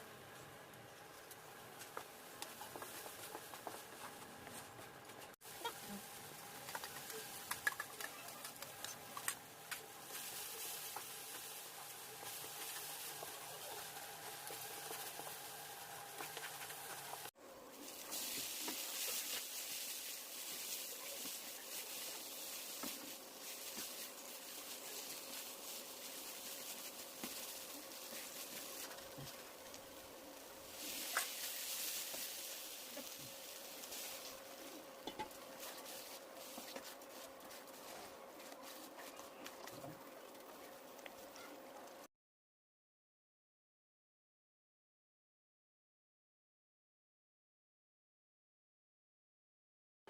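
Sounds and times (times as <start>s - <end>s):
faint sizzle: 0.0s - 42.1s.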